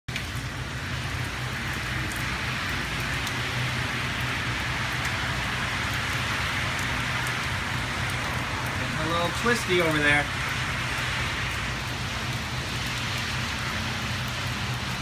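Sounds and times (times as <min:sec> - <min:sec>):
rain hissing: 0:00.1 - 0:15.0.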